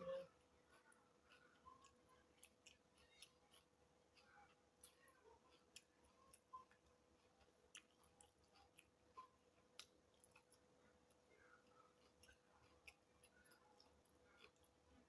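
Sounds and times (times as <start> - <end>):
faint steady hum: 0.0 - 15.0
mouth clicks and smacks chewing: 0.4 - 15.0.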